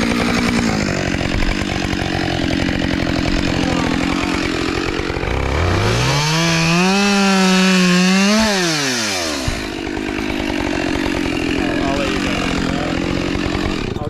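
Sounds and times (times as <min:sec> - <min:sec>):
chainsaw idling and revving: 0:00.0 - 0:14.0.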